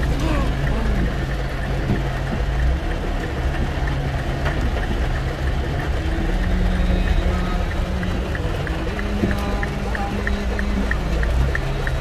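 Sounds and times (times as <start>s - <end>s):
car engine hum: 0.0s - 12.0s
heavy rain on car roof: 0.0s - 12.0s.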